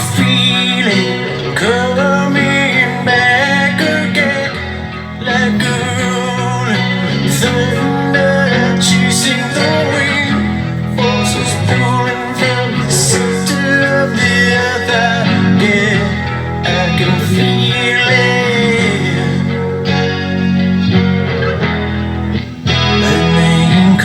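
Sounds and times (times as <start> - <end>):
band music with singing: 0.0 - 24.0
electric guitar: 0.0 - 24.0.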